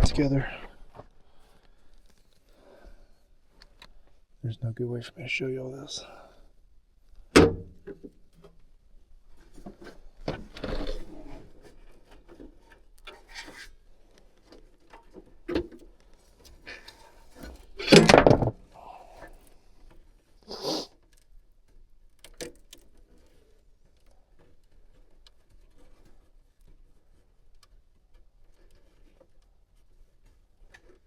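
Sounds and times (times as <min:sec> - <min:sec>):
hands rustling wiring and tape: 0:00.0 - 0:02.6, 0:08.0 - 0:31.0.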